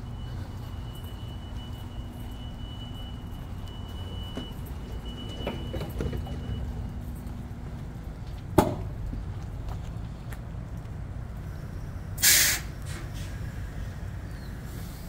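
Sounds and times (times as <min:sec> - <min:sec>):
train idling rumble: 0:00.0 - 0:15.0.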